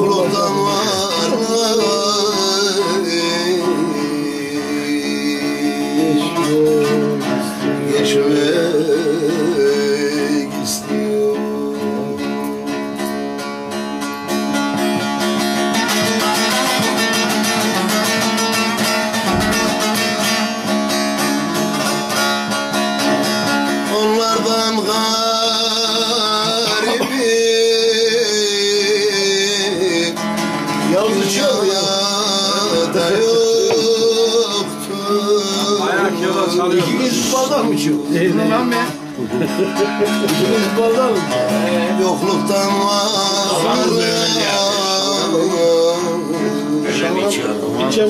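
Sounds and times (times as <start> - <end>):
long-necked lute strumming: 0.0 - 48.0
man singing folk song: 0.0 - 48.0.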